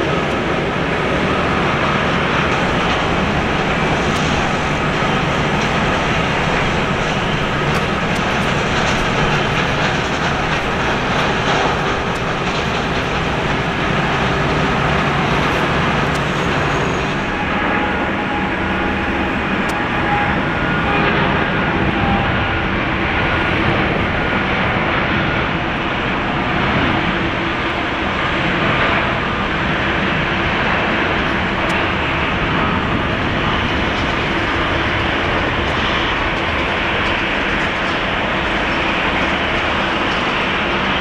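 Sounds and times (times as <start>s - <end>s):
jet engines at takeoff: 0.0s - 41.0s.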